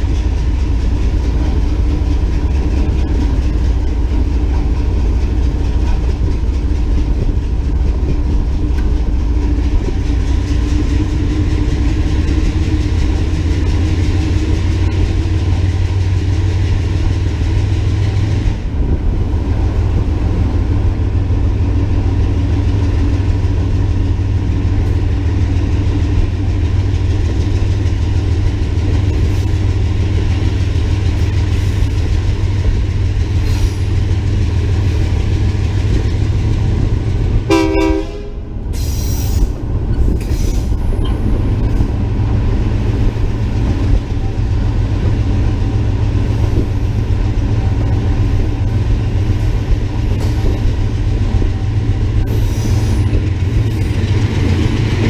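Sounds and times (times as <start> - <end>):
diesel locomotive rumble: 0.0 - 55.0.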